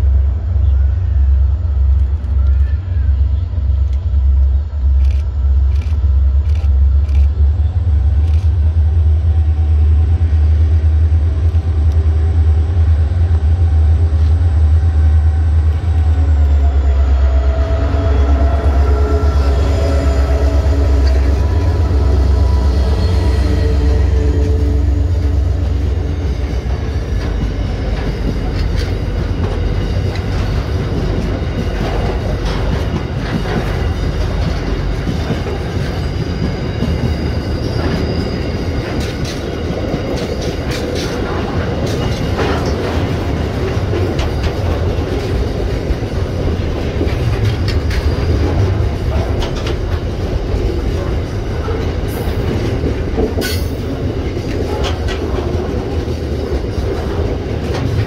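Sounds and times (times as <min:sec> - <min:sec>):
diesel locomotive engine hum: 0:00.0 - 0:58.0.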